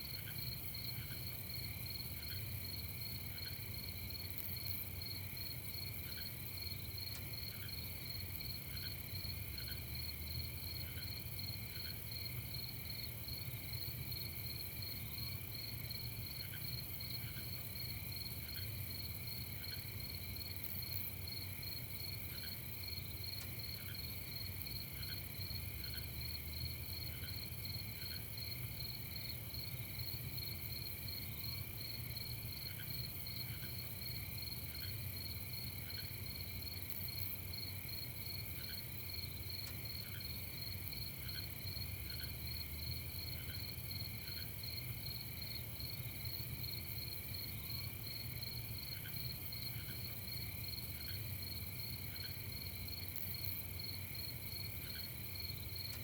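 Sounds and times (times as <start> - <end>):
crickets and insects trilling: 0.4 - 56.0.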